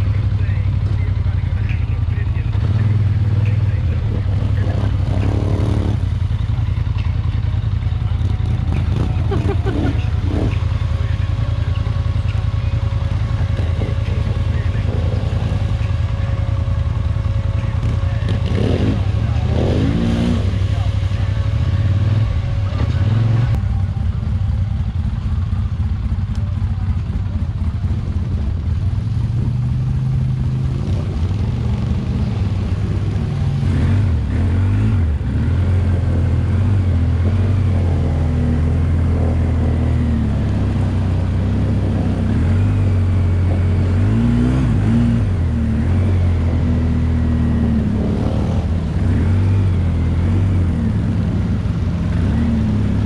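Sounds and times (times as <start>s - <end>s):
quad engine revving: 0.0s - 24.1s, 27.8s - 53.0s.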